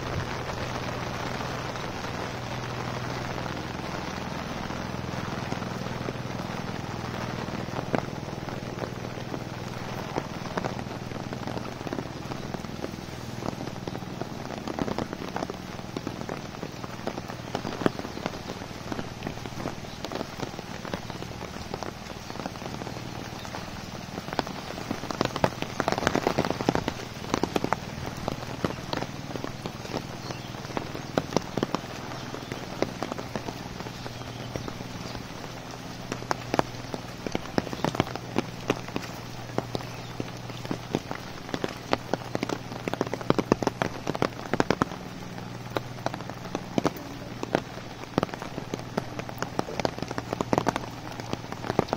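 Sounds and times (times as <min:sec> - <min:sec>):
rain on leaves and bricks: 0:00.0 - 0:51.9.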